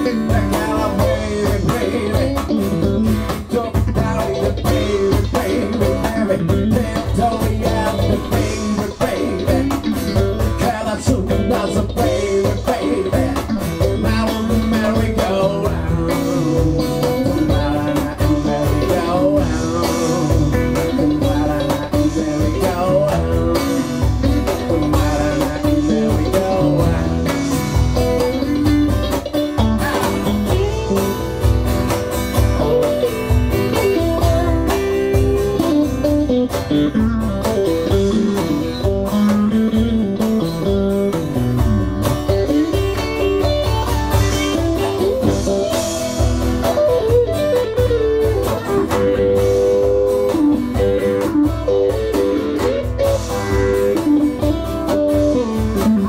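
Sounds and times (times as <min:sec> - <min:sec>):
man singing: 0:00.0 - 0:31.4, 0:32.6 - 0:43.4, 0:44.1 - 0:46.3, 0:46.9 - 0:56.0
acoustic guitar: 0:00.0 - 0:56.0
cajon: 0:00.0 - 0:56.0
electric guitar: 0:00.0 - 0:56.0.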